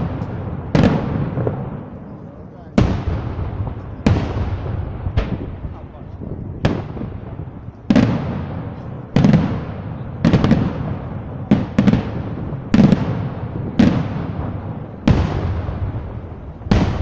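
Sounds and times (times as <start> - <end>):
firework bangs with echo: 0.0 - 17.0.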